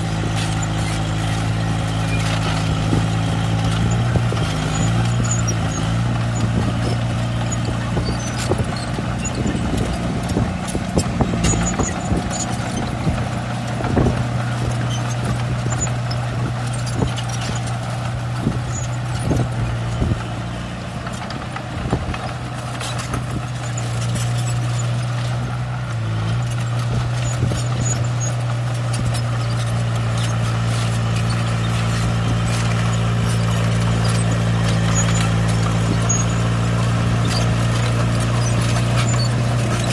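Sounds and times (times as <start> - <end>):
bulldozer diesel engine running: 0.0 - 39.9
tracks and stone clanking: 0.0 - 39.9.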